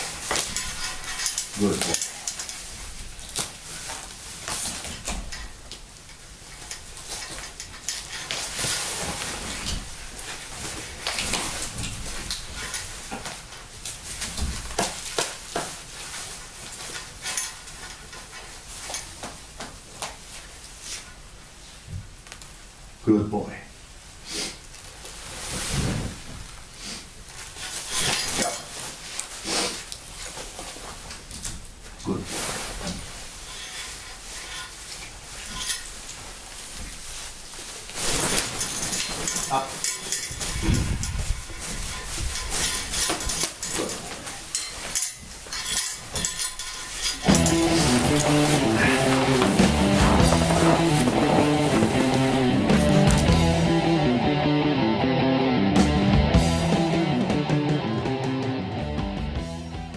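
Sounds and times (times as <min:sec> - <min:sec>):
jacket rustling: 0:00.0 - 0:21.9, 0:24.4 - 0:54.0.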